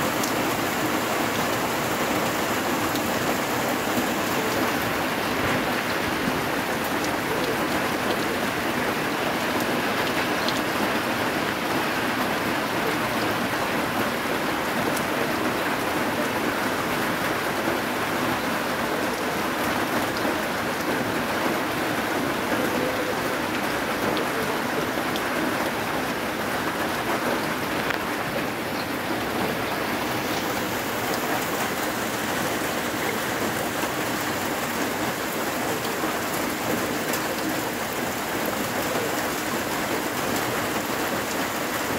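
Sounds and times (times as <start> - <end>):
heavy rain pouring on water: 0.0 - 41.9.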